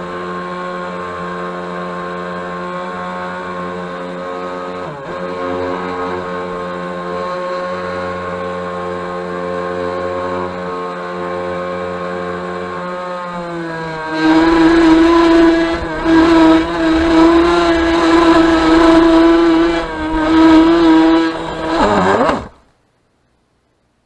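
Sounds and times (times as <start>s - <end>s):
model boat motor whining: 0.0s - 22.6s.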